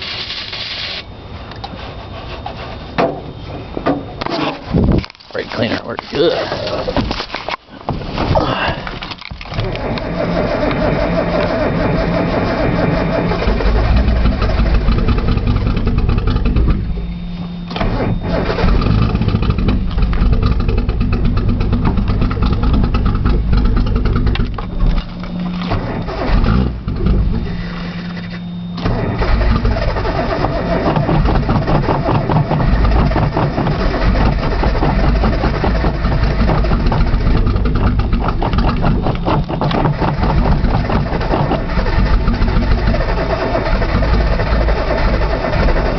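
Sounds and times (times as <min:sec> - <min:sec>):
car engine running roughly: 0:04.2 - 0:45.9.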